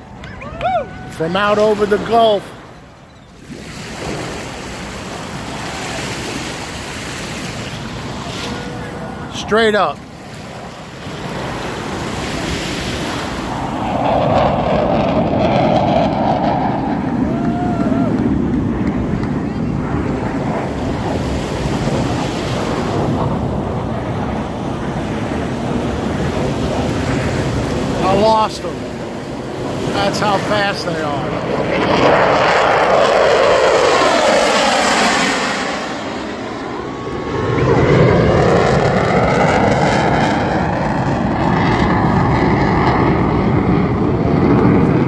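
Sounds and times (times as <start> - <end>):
jets roaring overhead: 0.0 - 45.0
wind buffeting microphone: 0.0 - 45.0.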